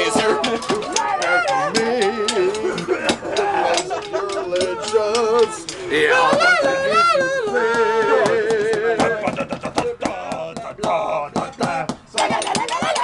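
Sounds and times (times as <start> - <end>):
people singing with vibrato: 0.0 - 13.0.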